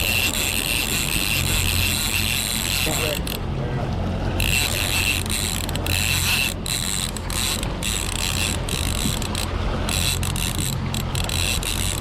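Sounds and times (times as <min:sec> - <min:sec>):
fishing reel whining: 0:00.0 - 0:03.4, 0:04.4 - 0:12.0
boat engine humming: 0:00.0 - 0:12.0.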